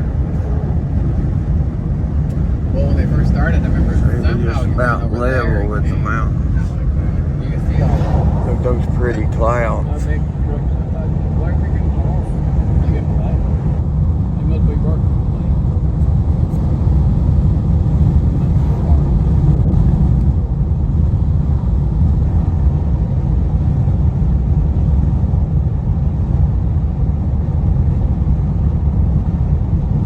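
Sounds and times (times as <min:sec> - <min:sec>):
car driving on highway: 0:00.0 - 0:30.0.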